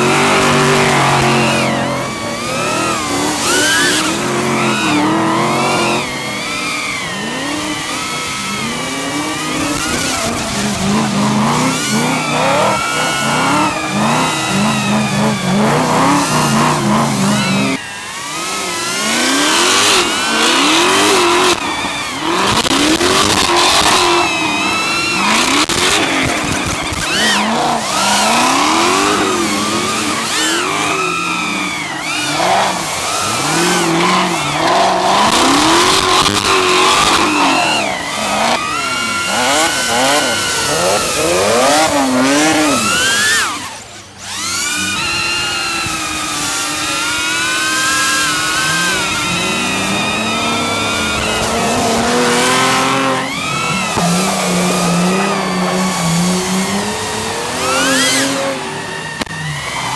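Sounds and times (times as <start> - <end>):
car engines revving hard: 0.0 - 59.9
tyres squealing and skidding: 0.0 - 59.9.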